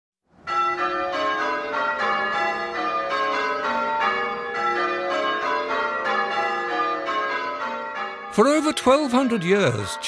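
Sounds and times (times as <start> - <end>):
church bells ringing changes: 0.4 - 10.0.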